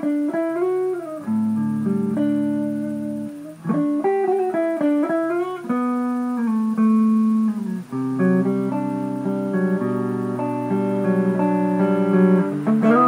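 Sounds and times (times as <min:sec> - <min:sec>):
clean electric guitar noodling: 0:00.0 - 0:13.0.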